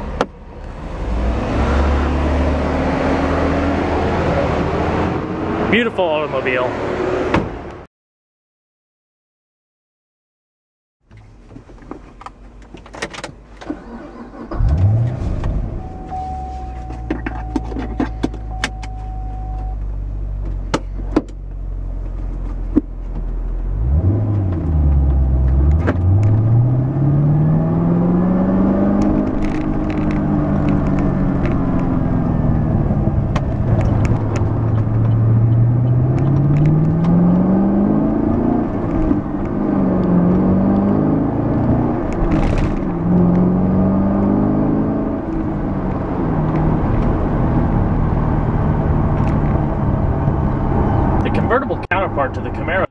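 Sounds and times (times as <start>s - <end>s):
car engine starting and revving: 0.0s - 7.8s, 13.6s - 20.6s, 23.3s - 52.9s.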